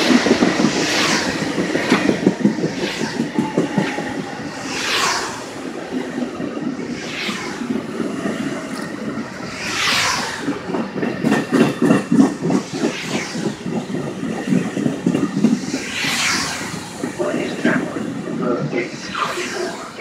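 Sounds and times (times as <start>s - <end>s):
train rushing hiss: 0.0s - 20.0s
wheels clicking over rail joints: 0.0s - 20.0s.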